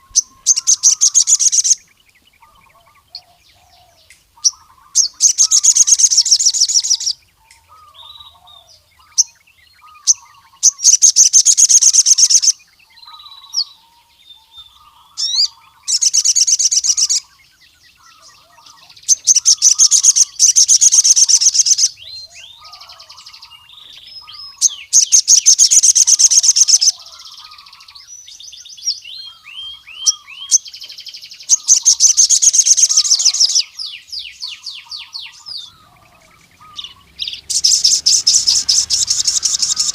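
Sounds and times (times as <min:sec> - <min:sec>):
bird singing high rapid trills: 0:00.0 - 0:39.9
soft bird chirps and twitters: 0:00.0 - 0:39.9.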